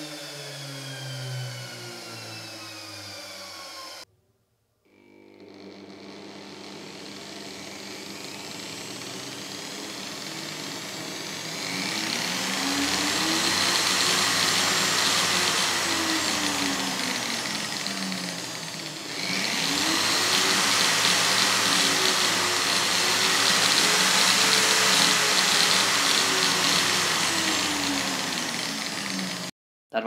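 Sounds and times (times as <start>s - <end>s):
angle grinder whine: 0.0s - 4.1s, 4.9s - 29.5s
washing machine motor winding down: 0.0s - 4.1s, 4.9s - 29.5s.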